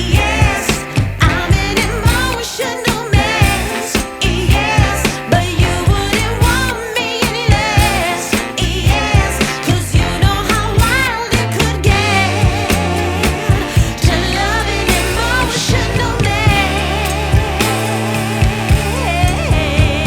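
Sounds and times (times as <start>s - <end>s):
pop song with vocals: 0.0s - 20.0s.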